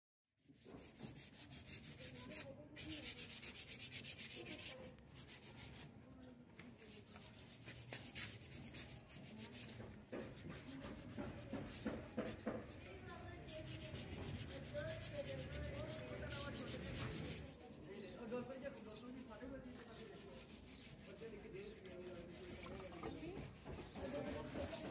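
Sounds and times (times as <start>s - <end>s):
sandpaper sanding wood: 0.4s - 5.9s, 6.8s - 24.9s.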